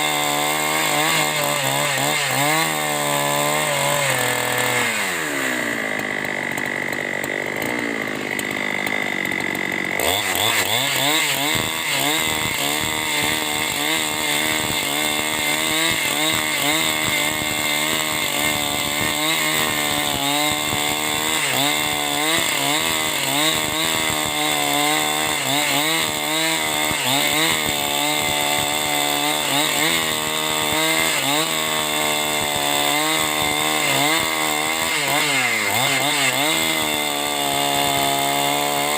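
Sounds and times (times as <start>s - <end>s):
chainsaw cutting timber: 0.0s - 38.9s.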